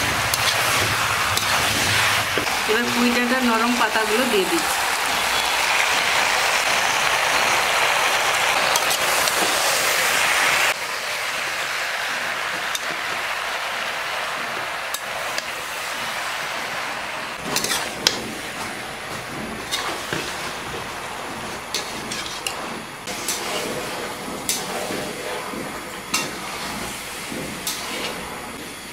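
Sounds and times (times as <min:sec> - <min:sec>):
leaves sizzling in a hot pan: 0:00.0 - 0:28.9.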